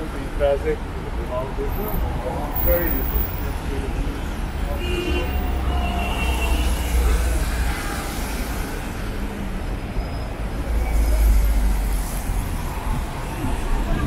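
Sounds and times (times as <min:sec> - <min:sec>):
road noise: 0:00.0 - 0:14.0
vehicle engines rumbling: 0:00.0 - 0:14.0.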